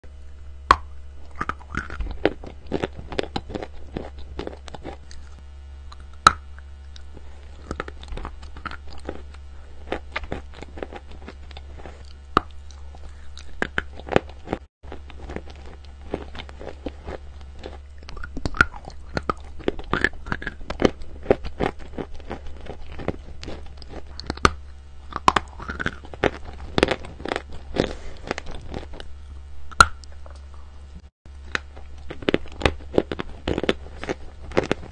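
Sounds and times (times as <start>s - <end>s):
low hum: 0.0s - 34.9s.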